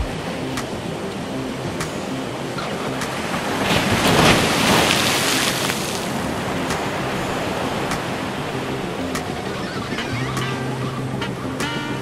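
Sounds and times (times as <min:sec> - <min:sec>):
waves breaking on seawall: 0:00.0 - 0:10.7.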